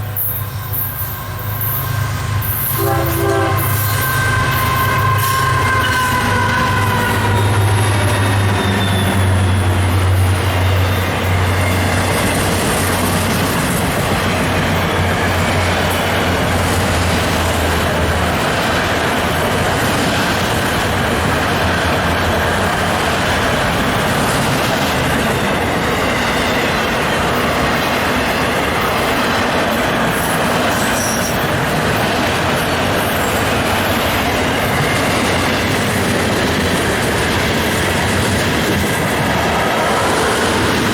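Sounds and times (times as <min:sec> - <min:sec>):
locomotive engine hum: 0:00.0 - 0:40.9
train cars rumbling over rails: 0:00.0 - 0:40.9.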